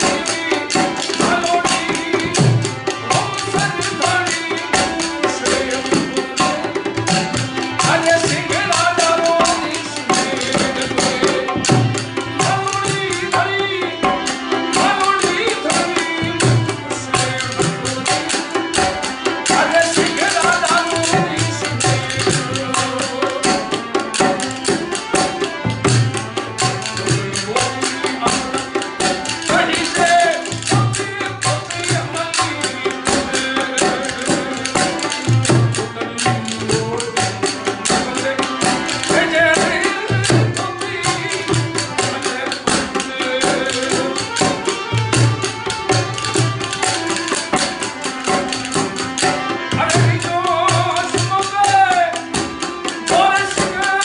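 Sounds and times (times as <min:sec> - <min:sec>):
man singing folk melody: 0:00.0 - 0:06.6, 0:07.8 - 0:18.2, 0:19.4 - 0:23.8, 0:27.1 - 0:44.8, 0:49.3 - 0:54.0
hand drum beating: 0:00.0 - 0:54.0
harmonium: 0:00.0 - 0:54.0.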